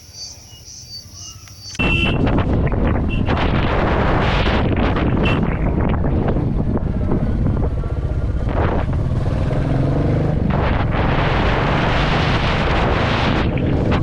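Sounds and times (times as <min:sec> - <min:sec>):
wind noise on microphone: 0:01.7 - 0:14.0
motorcycle engine running: 0:01.9 - 0:14.0.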